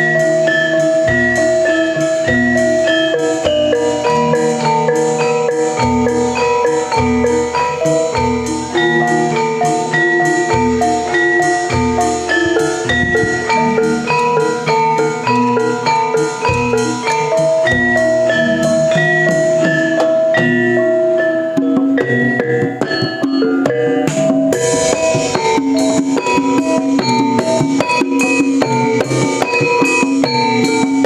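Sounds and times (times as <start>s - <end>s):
drumming: 0.0s - 31.0s
gamelan metallophones ringing: 0.0s - 31.0s.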